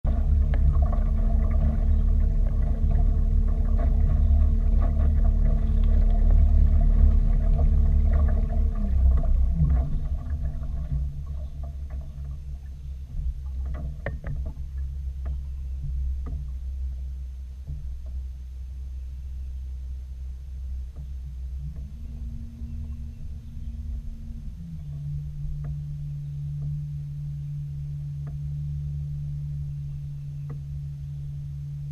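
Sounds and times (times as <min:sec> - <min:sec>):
motor running with low hum: 0:00.0 - 0:31.9.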